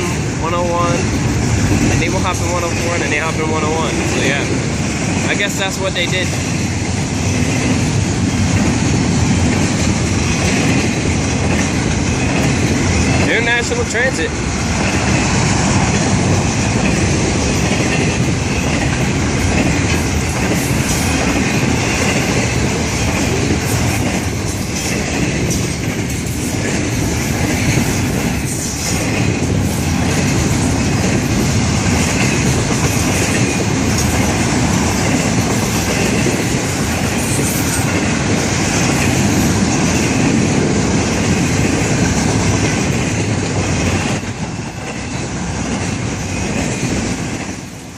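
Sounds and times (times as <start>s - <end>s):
train wheels on rails: 0.0s - 47.9s.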